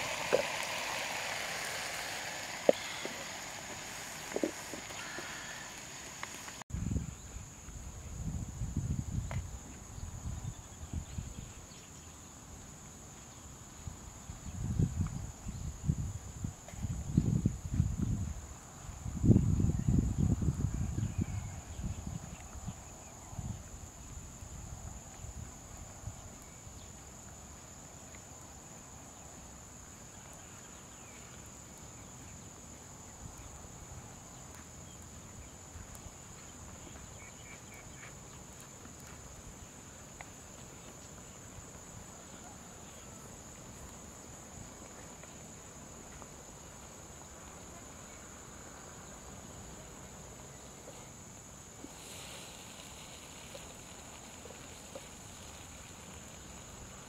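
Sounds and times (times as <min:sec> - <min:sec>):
hissy insect buzz: 0:00.0 - 0:57.0
insects trilling: 0:00.0 - 0:57.0.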